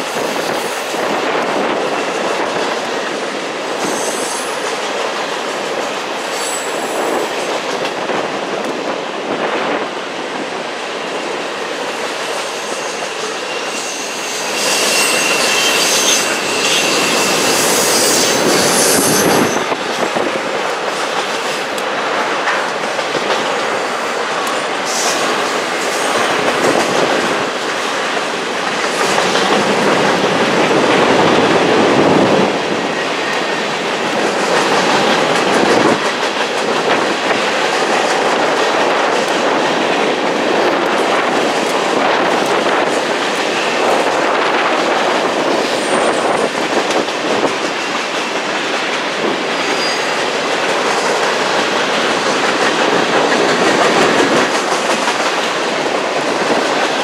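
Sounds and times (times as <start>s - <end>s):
freight train wheels clattering: 11.1s - 57.0s.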